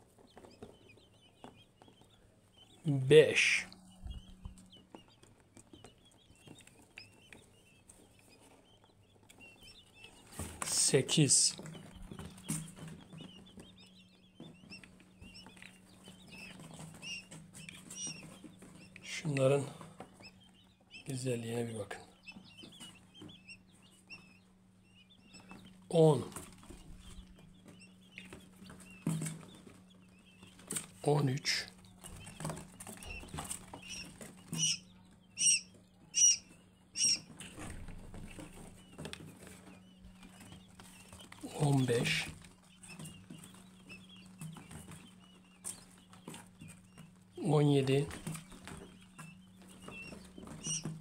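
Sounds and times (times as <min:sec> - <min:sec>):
quail chicks peeping: 0:00.0 - 0:51.0.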